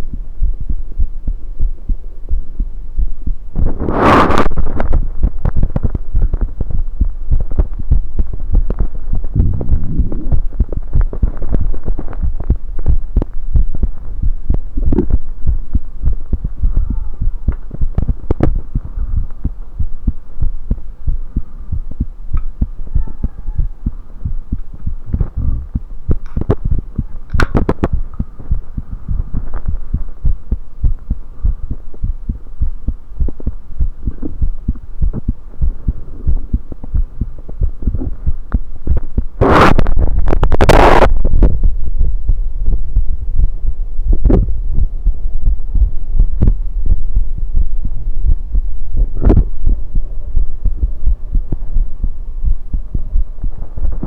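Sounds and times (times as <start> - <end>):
heartbeat thumps through stethoscope: 0.0 - 54.0
low hum: 0.0 - 54.0.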